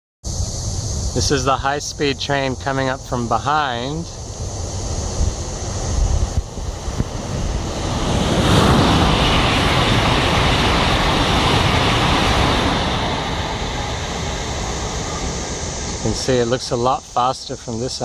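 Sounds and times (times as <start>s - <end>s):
wind buffeting microphone: 0.3s - 17.0s
high speed train passing: 0.3s - 18.0s.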